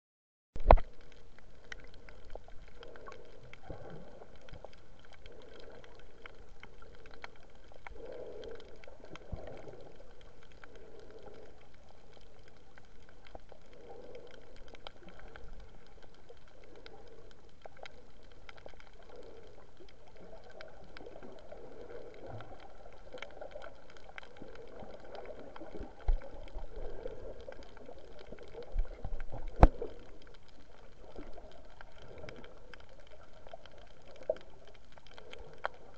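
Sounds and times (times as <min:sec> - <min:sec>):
faint clicks: 0:00.6 - 0:35.9
muffled underwater swirling wash: 0:00.8 - 0:35.9.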